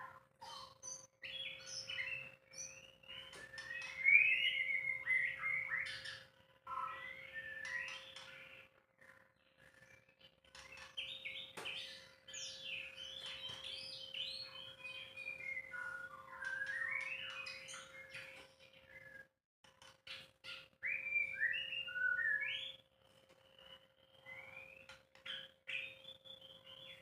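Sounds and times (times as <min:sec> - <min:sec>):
bird singing whistled notes: 0:00.0 - 0:19.3, 0:20.6 - 0:22.8, 0:23.4 - 0:27.0.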